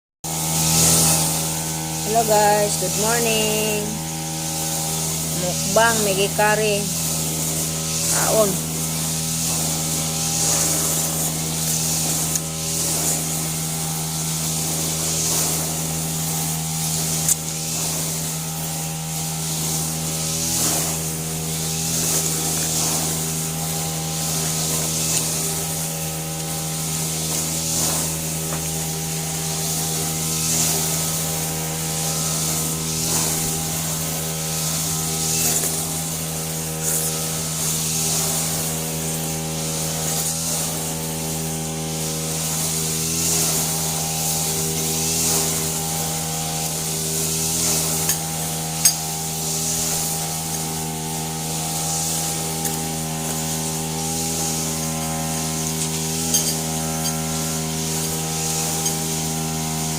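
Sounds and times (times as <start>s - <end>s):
steady electrical hum: 0.3s - 59.9s.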